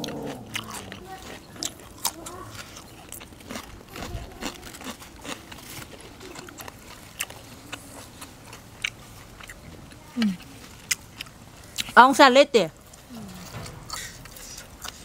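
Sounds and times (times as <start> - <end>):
chewing soft food: 0.0 - 12.0, 12.8 - 15.0.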